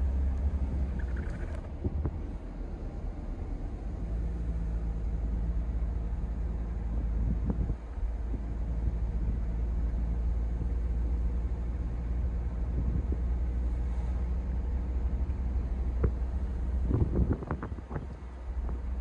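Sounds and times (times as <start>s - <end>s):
car engine and road noise rumble: 0.0s - 19.0s.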